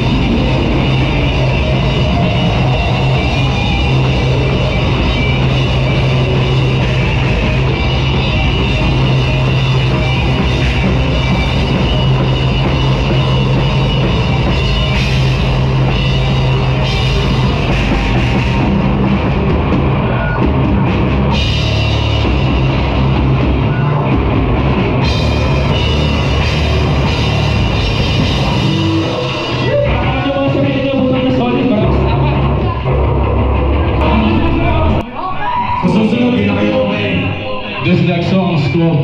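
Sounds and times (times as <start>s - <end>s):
electric guitar: 0.0s - 37.0s
drum kit: 0.0s - 37.3s
bass guitar: 0.0s - 39.0s.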